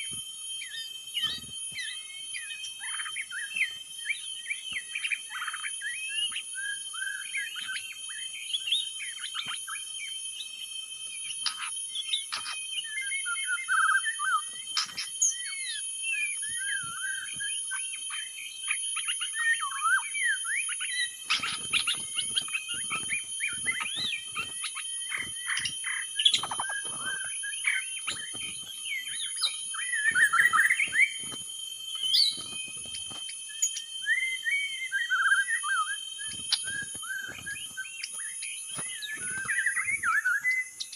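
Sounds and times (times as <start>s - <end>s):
bird singing whistles and trills: 0.0s - 40.9s
thin steady high tone: 0.0s - 40.9s.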